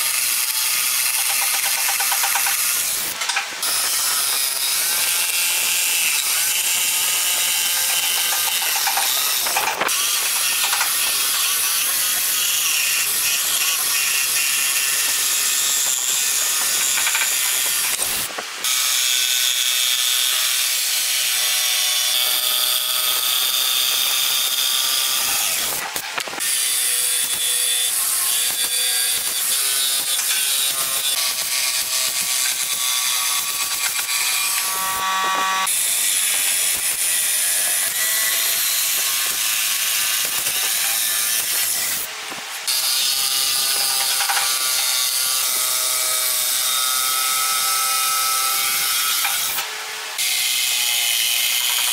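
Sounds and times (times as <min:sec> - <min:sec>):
jigsaw cutting wood: 0:00.0 - 0:51.9.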